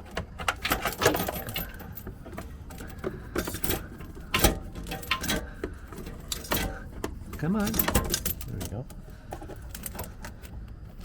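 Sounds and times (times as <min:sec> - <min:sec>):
metallic clicks and rattles: 0:00.0 - 0:10.6.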